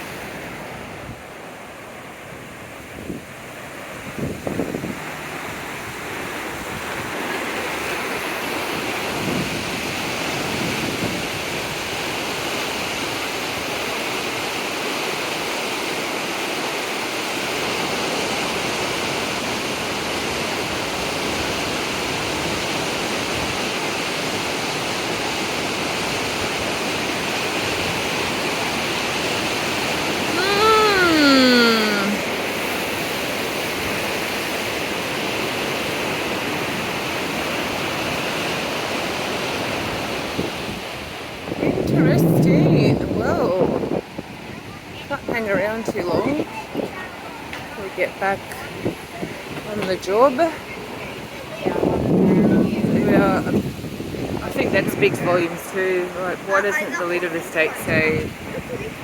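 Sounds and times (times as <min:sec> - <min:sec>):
rushing floodwater: 0:00.0 - 0:59.0.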